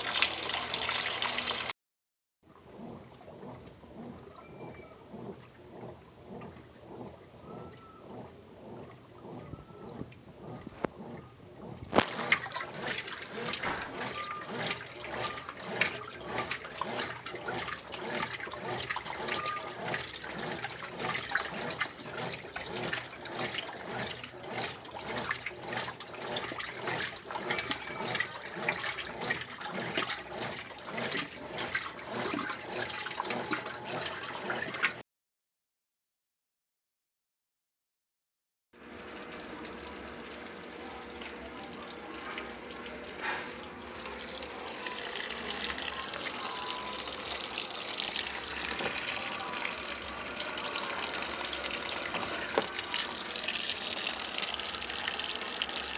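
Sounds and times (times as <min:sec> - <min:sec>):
washing machine water sloshing: 0:00.0 - 0:01.7, 0:02.5 - 0:35.0, 0:38.8 - 0:55.9.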